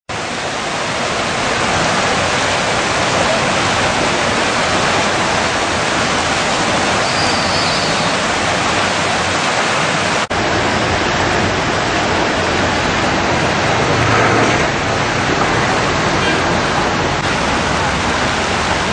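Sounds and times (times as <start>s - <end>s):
heavy rain pouring: 0.1s - 18.9s.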